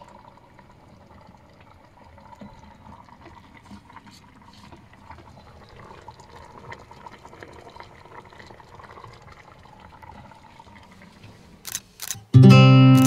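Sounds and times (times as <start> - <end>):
soup simmering in a saucepan: 0.0 - 11.6.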